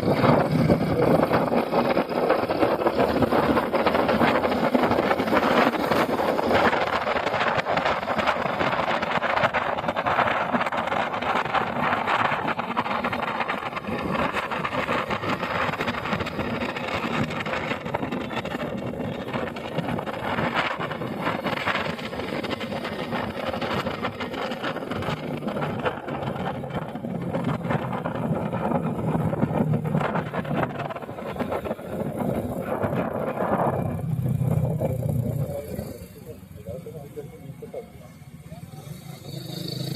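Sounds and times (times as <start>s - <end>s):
wind buffeting microphone: 0.0s - 36.1s
motorcycle engine: 0.0s - 39.9s.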